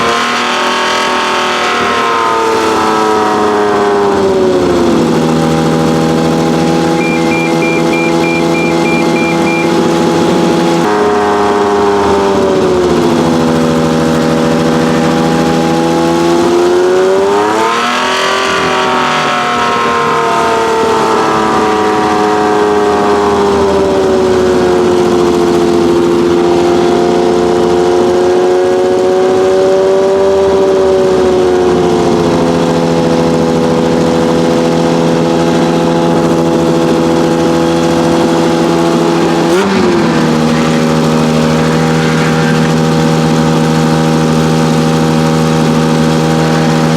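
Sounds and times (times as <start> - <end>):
racing car engine running: 0.0 - 46.9.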